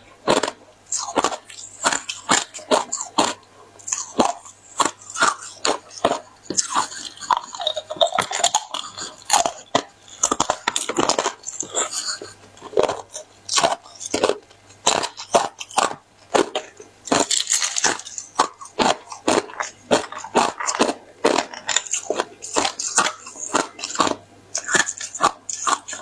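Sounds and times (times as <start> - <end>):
ice being bitten and chewed: 0.0 - 26.0.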